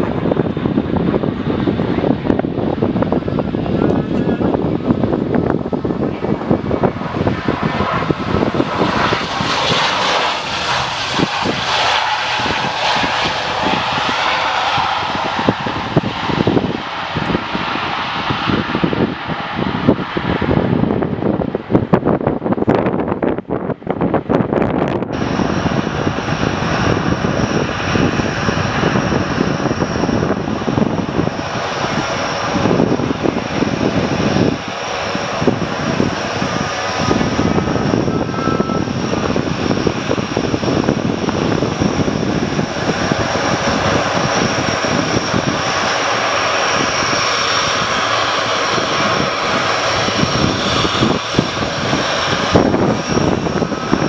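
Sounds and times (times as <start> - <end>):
high-pitched engine whine: 0.0 - 54.0
turboprop engines droning: 0.0 - 54.0.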